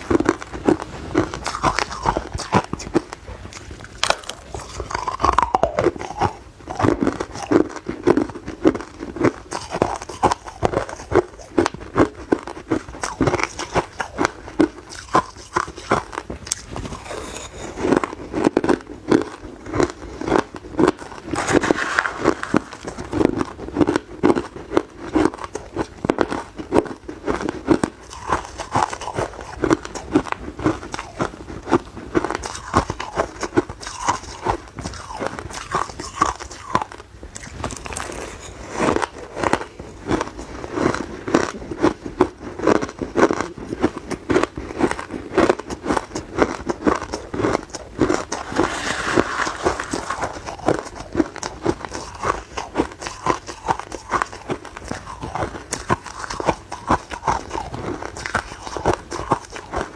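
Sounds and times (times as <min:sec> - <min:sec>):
person chewing ice: 0:00.0 - 0:59.9.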